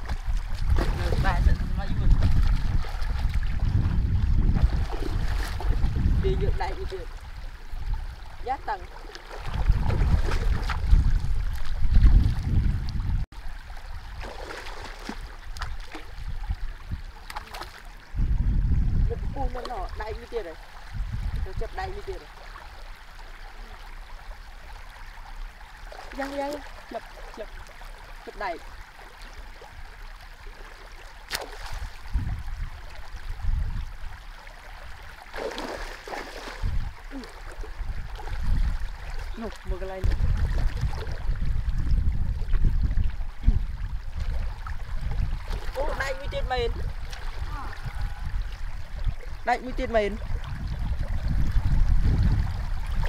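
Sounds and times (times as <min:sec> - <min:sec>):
river water sloshing: 0:00.0 - 0:18.2, 0:19.1 - 0:53.0.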